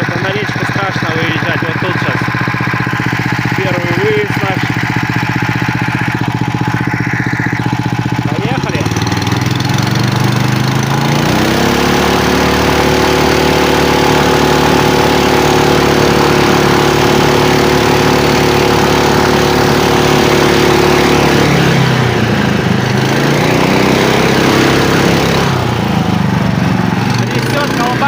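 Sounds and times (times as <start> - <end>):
snowmobile engine driving off: 0.0 - 28.0.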